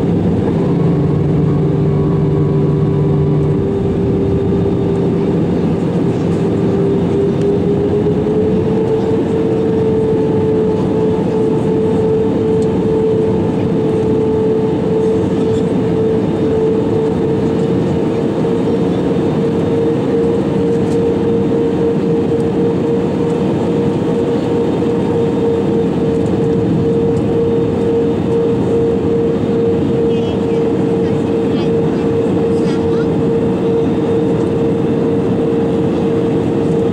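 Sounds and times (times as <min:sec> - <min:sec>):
jet engines in aircraft cabin: 0:00.0 - 0:36.9.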